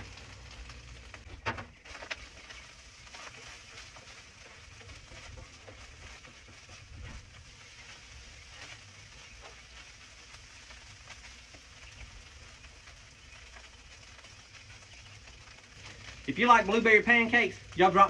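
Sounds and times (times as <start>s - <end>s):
food sizzling while frying: 0.0s - 18.0s.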